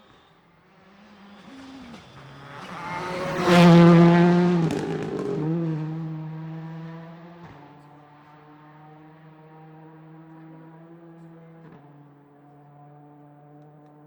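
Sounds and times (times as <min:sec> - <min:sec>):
racing car passing at speed: 0:00.0 - 0:14.0.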